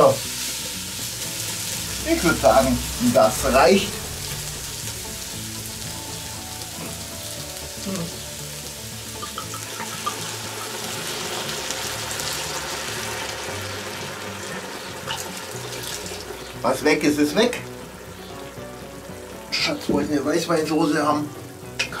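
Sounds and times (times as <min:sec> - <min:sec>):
wine pouring into a pot: 0:00.0 - 0:19.6
vegetables sizzling in a pot: 0:00.0 - 0:22.0.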